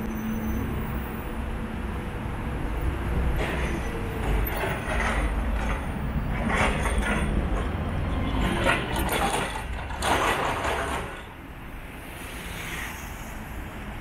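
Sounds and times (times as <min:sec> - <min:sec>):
vehicles passing with hiss: 0:00.0 - 0:08.9, 0:09.6 - 0:14.0
traffic low rumble: 0:00.0 - 0:14.0.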